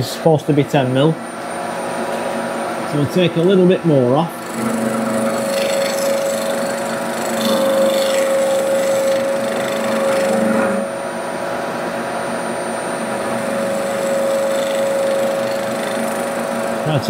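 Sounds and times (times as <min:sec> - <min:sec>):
milling machine whine: 0:00.0 - 0:17.0
rough metal cutting noise: 0:00.0 - 0:17.0.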